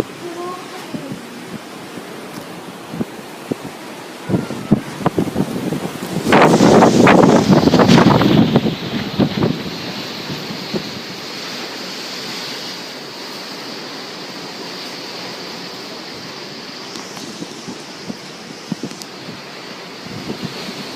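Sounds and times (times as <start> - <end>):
ocean surf rushing: 0.0 - 20.9.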